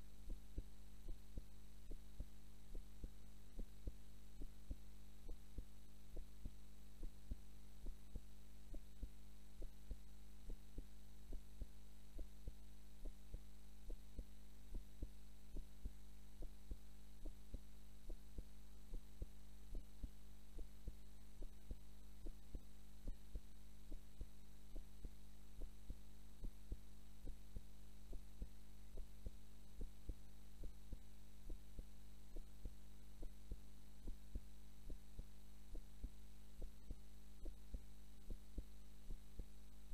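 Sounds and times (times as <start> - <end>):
heartbeat: 0.0 - 39.9
steady low hum: 0.0 - 39.9.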